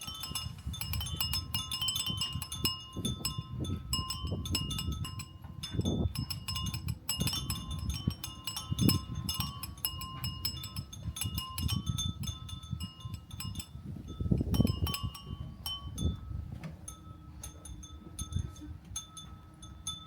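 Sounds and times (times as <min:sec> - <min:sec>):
low rumble of wind gusts: 0:00.0 - 0:20.0
wind chimes tinkling: 0:00.0 - 0:20.0.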